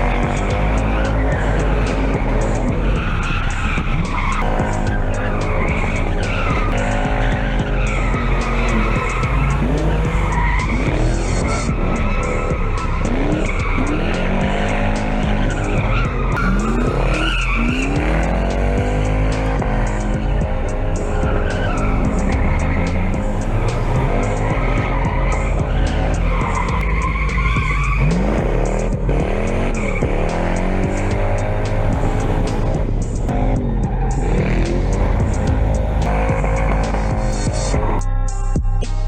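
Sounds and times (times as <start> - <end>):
car engine revving: 0.0 - 39.0
tires squealing: 0.0 - 39.0.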